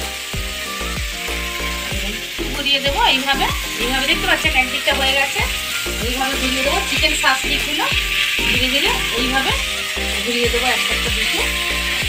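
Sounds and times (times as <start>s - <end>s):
background music with steady beat: 0.0s - 12.0s
skewers sizzling in a hot pan: 0.0s - 12.0s.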